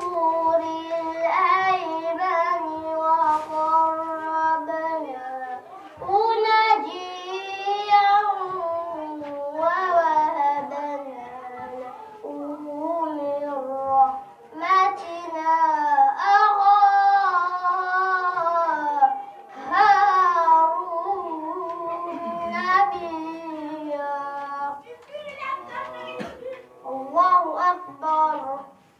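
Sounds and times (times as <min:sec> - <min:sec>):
child chanting: 0:00.0 - 0:28.8.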